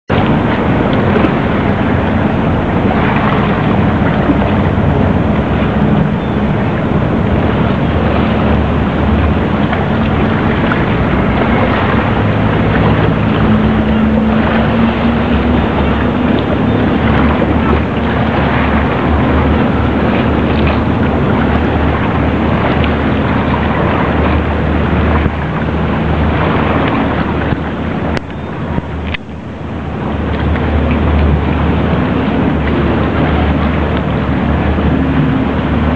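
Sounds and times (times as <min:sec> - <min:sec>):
boat engine humming: 0:00.0 - 0:35.9
wind and water rushing: 0:00.0 - 0:35.9.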